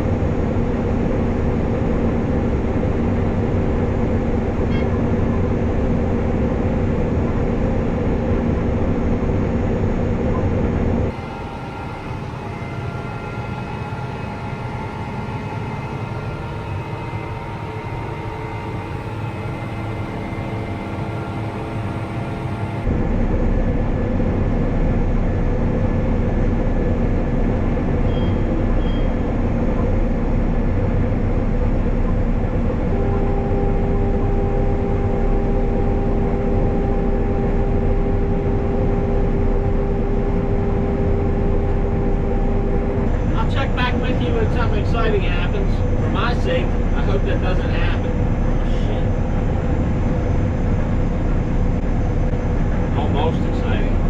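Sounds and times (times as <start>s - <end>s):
combine harvester engine drone: 0.0s - 54.0s
machinery whining tones: 0.2s - 54.0s.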